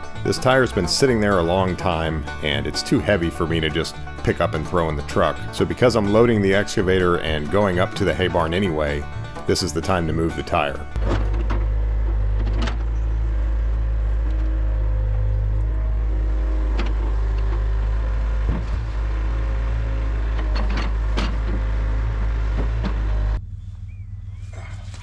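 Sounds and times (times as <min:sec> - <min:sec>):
heavy engine humming: 0:00.0 - 0:25.0.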